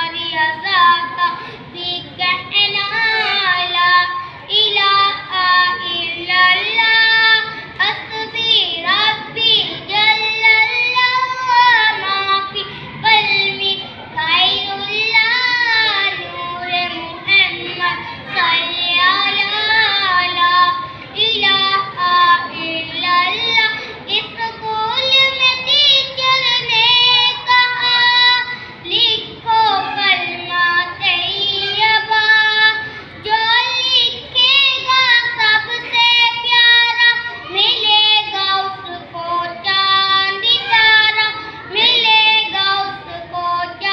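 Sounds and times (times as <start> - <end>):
child singing: 0.0 - 43.9.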